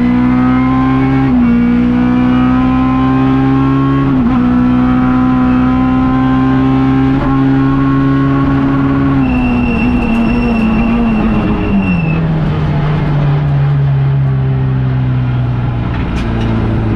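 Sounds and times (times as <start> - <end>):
rally car engine: 0.0 - 16.9.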